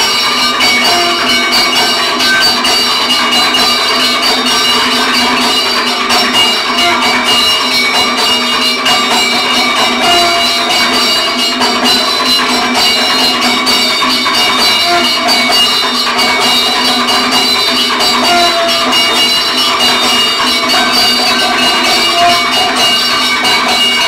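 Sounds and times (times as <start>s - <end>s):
metal cymbals struck rhythmically: 0.0s - 24.0s
ringing bell-like tones: 0.0s - 24.0s.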